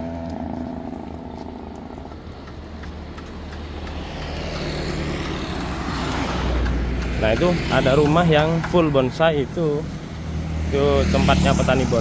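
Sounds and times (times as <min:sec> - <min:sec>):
car approaching: 0:00.0 - 0:12.0
vehicle engine: 0:00.0 - 0:12.0.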